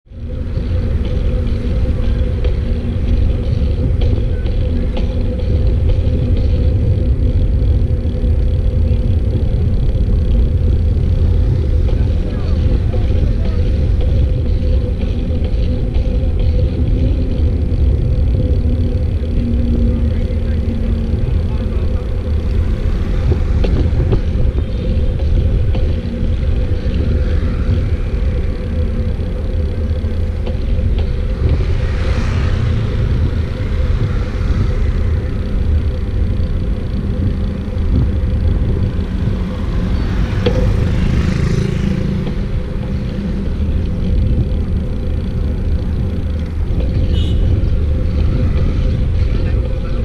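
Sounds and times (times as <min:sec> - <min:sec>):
passing traffic: 0:00.0 - 0:50.0.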